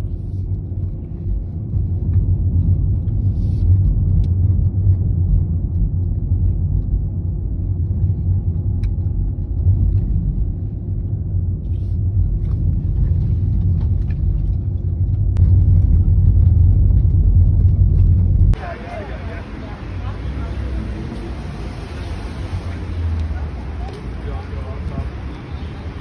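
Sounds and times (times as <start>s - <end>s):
deep rumble: 0.0s - 26.0s.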